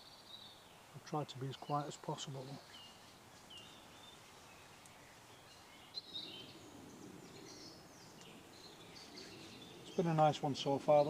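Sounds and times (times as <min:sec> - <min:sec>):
faint birdsong chirps and whistles: 0:00.0 - 0:11.0.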